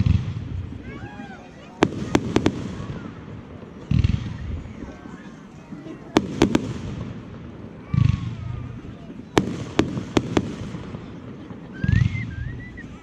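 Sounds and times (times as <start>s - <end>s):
deep firework booms: 0.0s - 1.1s, 1.8s - 5.2s, 6.0s - 12.7s
sharp firework cracks: 0.0s - 12.3s.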